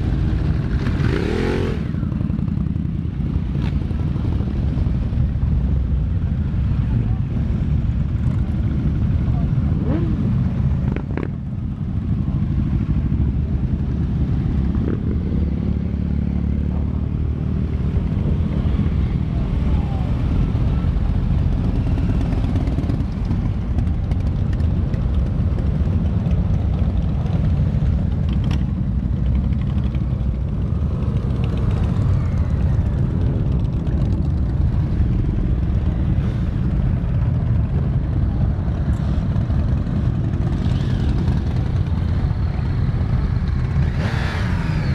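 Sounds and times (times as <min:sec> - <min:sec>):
motorcycles riding past: 0:00.0 - 0:44.9.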